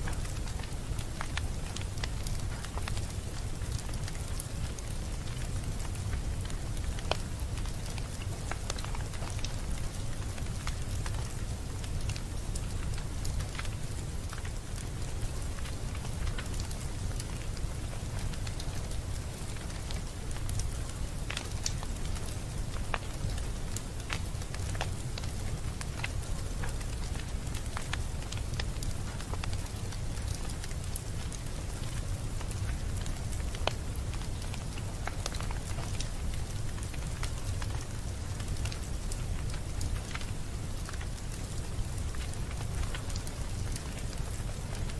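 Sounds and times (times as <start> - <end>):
low fire rumble: 0.0 - 44.9
wood fire crackling: 0.0 - 44.9.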